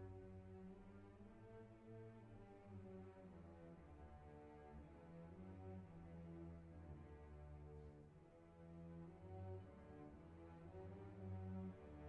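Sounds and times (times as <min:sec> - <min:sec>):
soft orchestral background music: 0:00.0 - 0:12.0.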